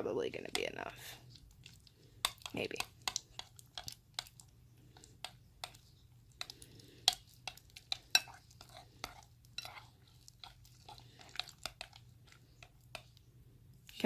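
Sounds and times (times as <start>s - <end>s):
spoon stirring slime in a bowl: 0.0s - 14.0s.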